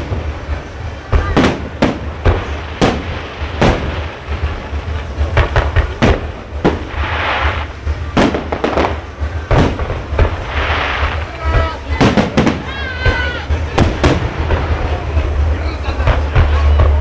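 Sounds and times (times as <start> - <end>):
fireworks crackling: 0.0 - 17.0
low rumble: 0.0 - 17.0.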